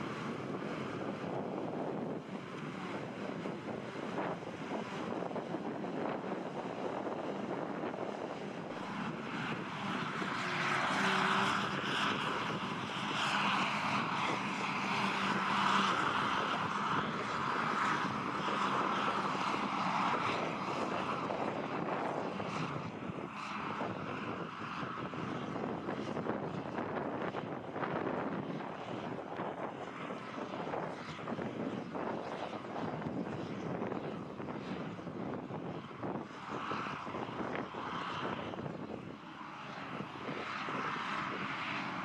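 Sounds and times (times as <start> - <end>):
forage harvester engine drone: 0.0 - 42.0.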